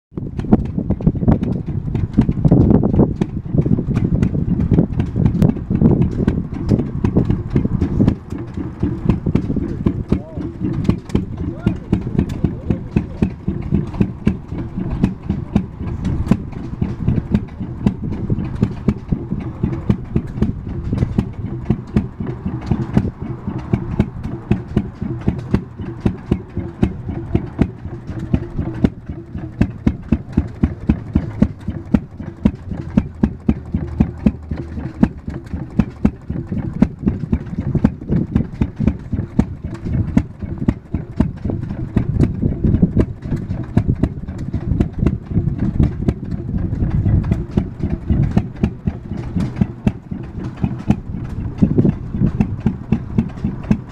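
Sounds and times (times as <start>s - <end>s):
stationary engine beating: 0.1s - 53.9s.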